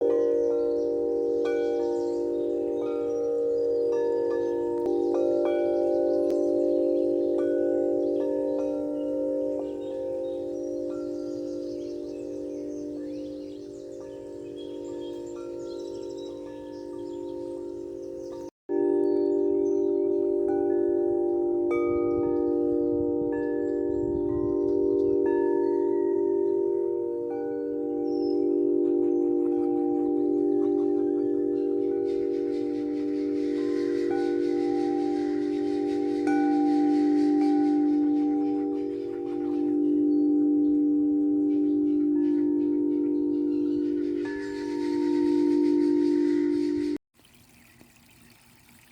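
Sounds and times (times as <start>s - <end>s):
wind chime ringing: 0.0s - 47.0s.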